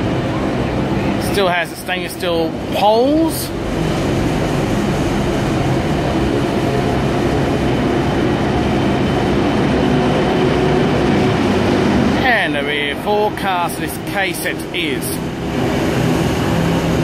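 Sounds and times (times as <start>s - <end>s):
low motor drone: 0.0s - 17.0s
train wheels rolling on rail: 0.0s - 17.0s.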